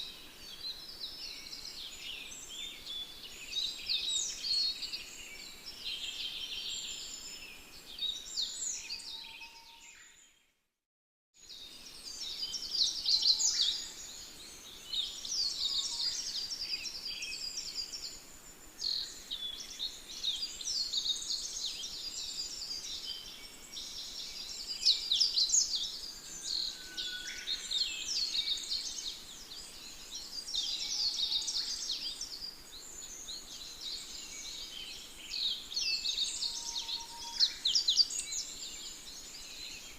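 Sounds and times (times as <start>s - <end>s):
small birds chirping chorus: 0.0s - 10.5s, 11.4s - 39.9s.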